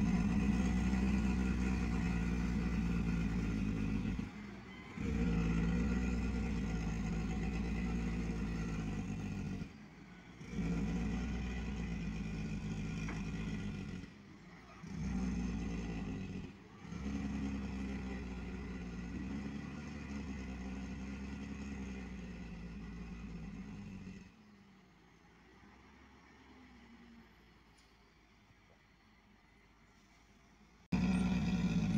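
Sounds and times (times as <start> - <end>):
truck engine running: 0.0 - 24.9, 30.6 - 31.9.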